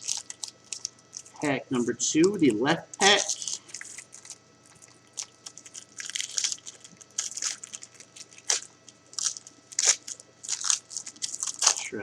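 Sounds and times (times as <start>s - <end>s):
card pack wrapper crinkling: 0.0s - 1.4s, 2.2s - 12.0s
wrapper tearing open: 0.0s - 1.4s, 2.3s - 11.9s.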